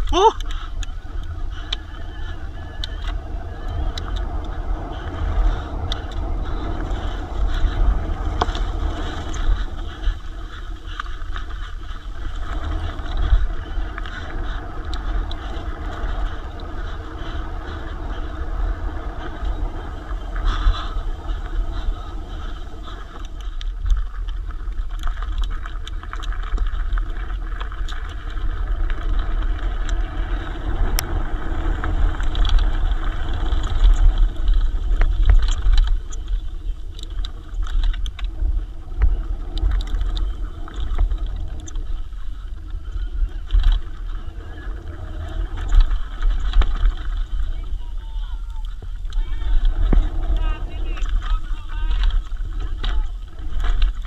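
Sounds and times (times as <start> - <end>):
bike clattering over rough ground: 0.0 - 54.0
wind rumble on microphone: 0.0 - 54.0.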